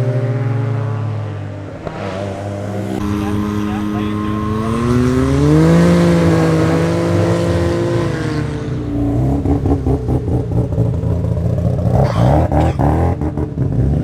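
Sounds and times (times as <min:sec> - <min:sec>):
car engine revving and idling: 0:00.0 - 0:14.0.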